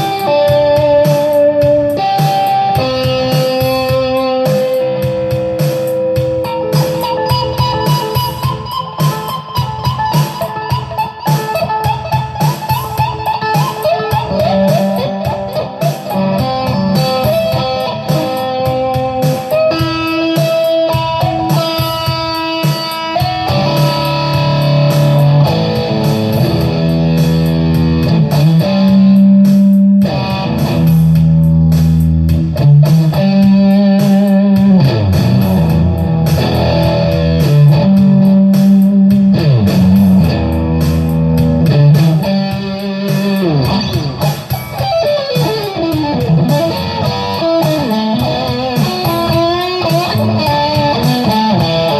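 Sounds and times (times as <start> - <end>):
electric guitar lead lines: 0.0 - 51.9.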